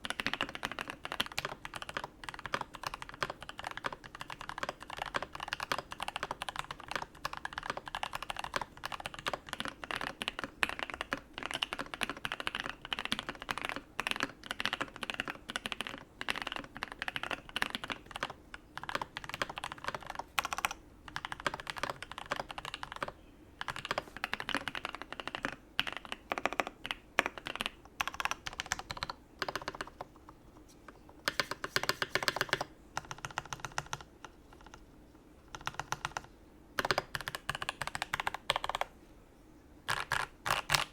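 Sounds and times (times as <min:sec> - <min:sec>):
mechanical keyboard typing: 0:00.0 - 0:30.3, 0:31.2 - 0:34.8, 0:35.5 - 0:38.9, 0:39.9 - 0:40.9.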